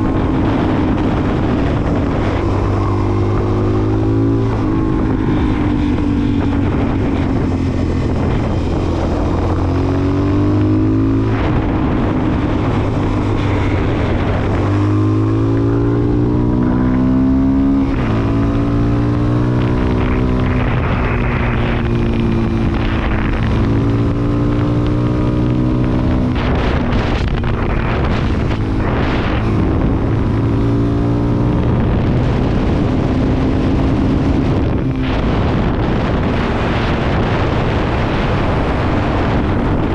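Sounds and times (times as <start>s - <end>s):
motorcycle engine: 0.0s - 39.9s
wind on microphone: 0.0s - 39.9s.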